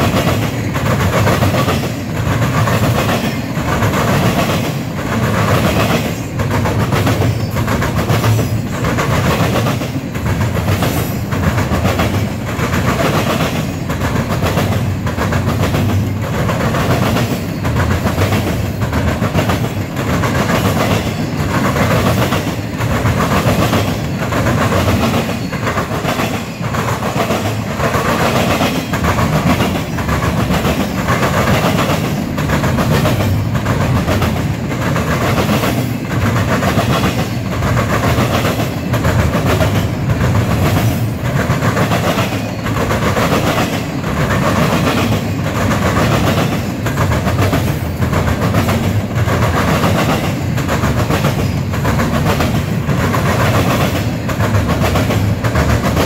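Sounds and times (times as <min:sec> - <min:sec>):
continuous train rumble: 0:00.0 - 0:56.0
train wheels clacking over rail joints: 0:00.0 - 0:56.0.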